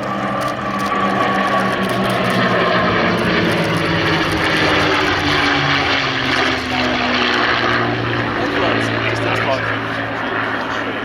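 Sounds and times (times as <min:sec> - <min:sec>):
propeller plane flying past: 0:00.0 - 0:11.0.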